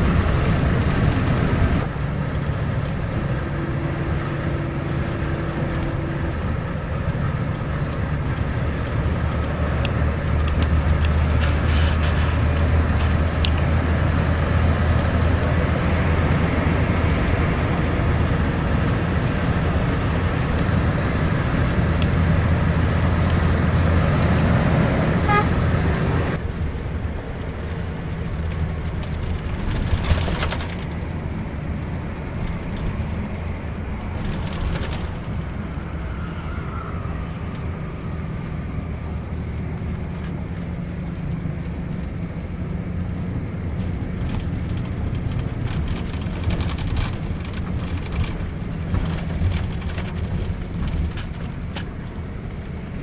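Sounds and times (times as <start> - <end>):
bus engine running: 0.0 - 53.0
road noise: 0.0 - 53.0.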